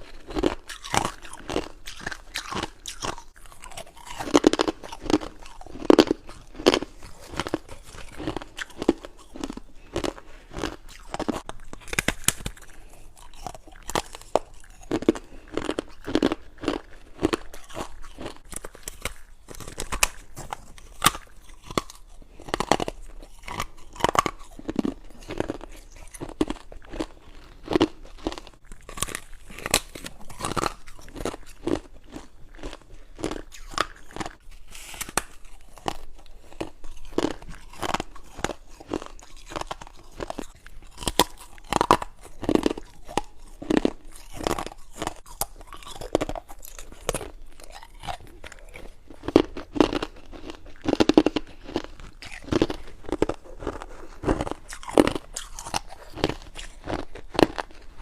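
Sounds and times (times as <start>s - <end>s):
ice cubes being chewed: 0.0s - 58.0s.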